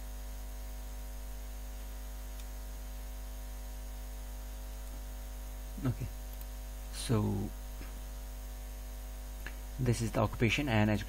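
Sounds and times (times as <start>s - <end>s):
electrical mains hum and hiss: 0.0s - 11.0s.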